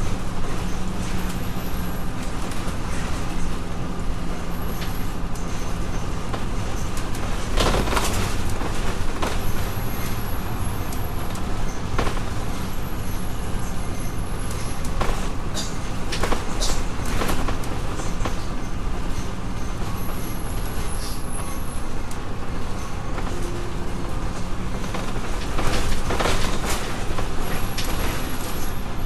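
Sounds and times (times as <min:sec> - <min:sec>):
bus engine hum: 0:00.0 - 0:29.0
road noise: 0:00.0 - 0:29.0.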